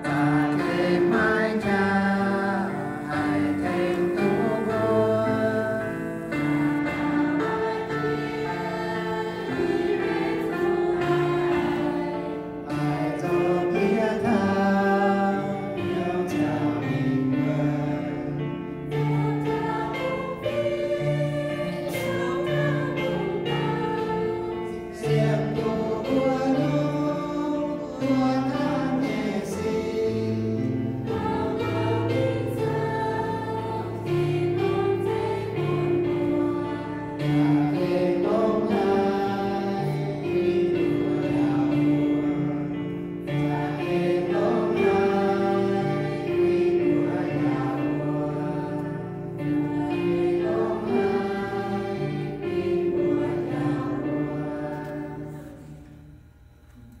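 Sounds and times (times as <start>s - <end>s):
choir singing worship song: 0.0s - 57.0s
stage piano: 0.0s - 57.0s.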